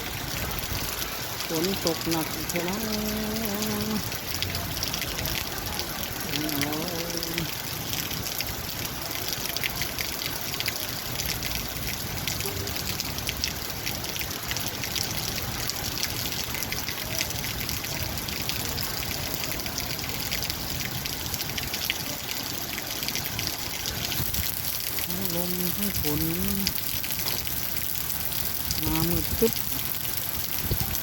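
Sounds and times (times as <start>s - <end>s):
heavy rain falling: 0.0s - 31.0s
wind: 0.0s - 31.0s.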